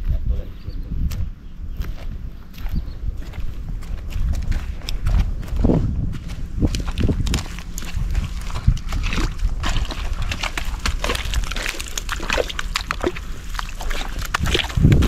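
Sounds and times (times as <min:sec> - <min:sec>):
wind rumble on microphone: 0:00.0 - 0:15.0
footsteps in wet mud: 0:01.0 - 0:15.0.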